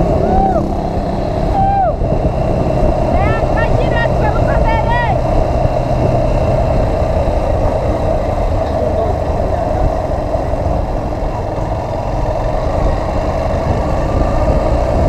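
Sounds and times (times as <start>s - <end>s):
motorcycle engine drone: 0.0s - 15.0s
wind rush on microphone: 0.0s - 15.0s.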